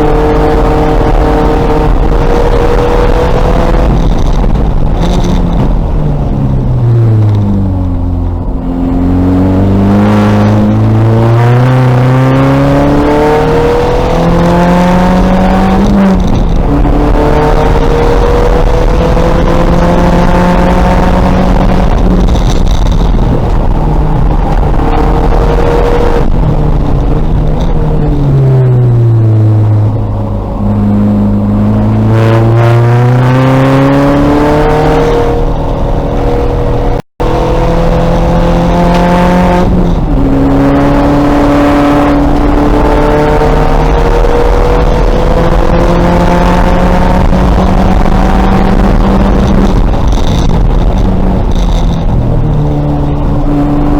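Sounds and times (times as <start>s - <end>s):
race car engine running hard: 0.0s - 53.9s.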